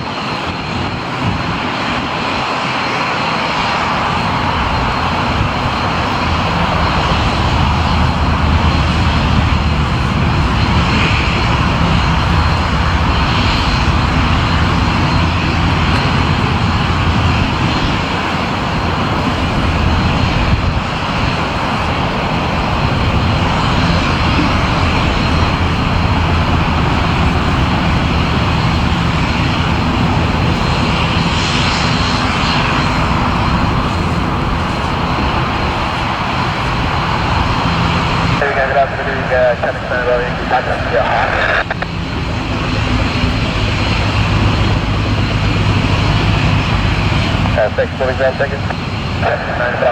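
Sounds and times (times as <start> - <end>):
aircraft engines running: 0.0 - 49.9.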